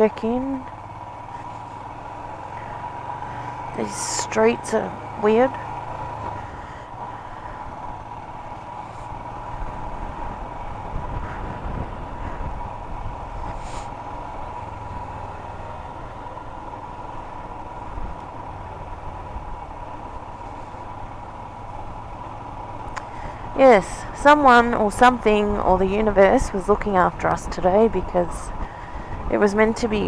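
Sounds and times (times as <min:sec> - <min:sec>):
motorcycle engine and road rumble: 0:00.0 - 0:30.0.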